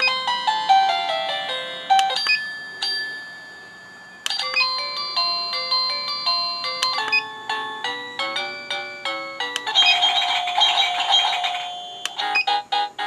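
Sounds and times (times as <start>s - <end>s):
electronic chime melodies: 0.0s - 0.6s, 2.0s - 12.6s.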